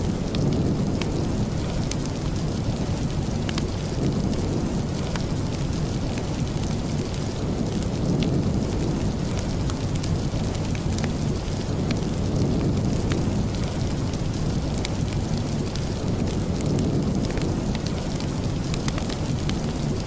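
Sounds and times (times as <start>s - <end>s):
steady rain rumbling: 0.0s - 20.0s
wood fire crackling: 0.0s - 20.0s.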